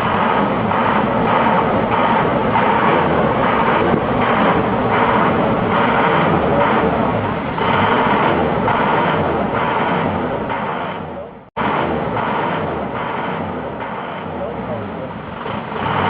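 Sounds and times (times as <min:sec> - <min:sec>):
diesel engine running loudly: 0:00.0 - 0:16.0.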